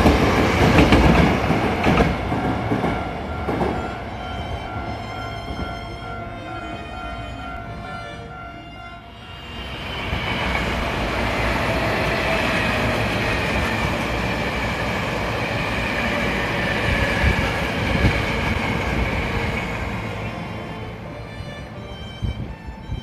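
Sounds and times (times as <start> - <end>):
electric train rolling past: 0.0 - 23.0.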